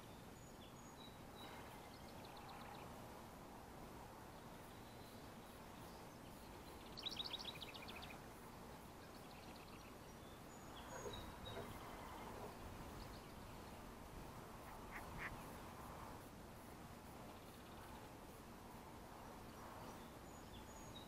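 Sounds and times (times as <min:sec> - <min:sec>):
songbirds calling: 0:00.0 - 0:03.1, 0:04.2 - 0:15.9, 0:17.2 - 0:18.3, 0:19.2 - 0:21.0.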